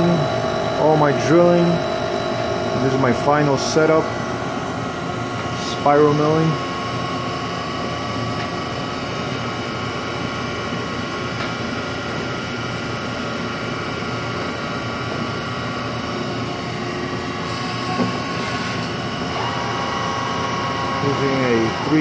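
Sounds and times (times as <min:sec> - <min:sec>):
milling machine drone and whine: 0:00.0 - 0:22.0.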